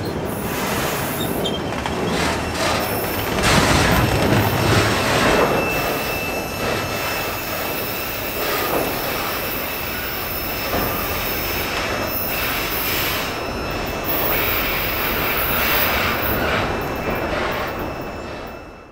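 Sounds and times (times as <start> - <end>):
train wheels on rails: 0.0 - 18.9.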